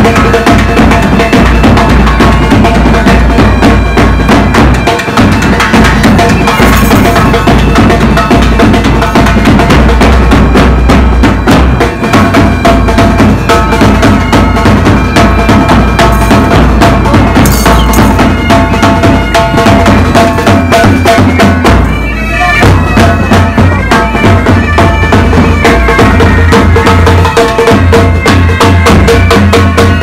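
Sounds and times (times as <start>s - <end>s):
bagpipes playing held notes: 0.0s - 30.0s
drums beating rapidly: 0.0s - 30.0s.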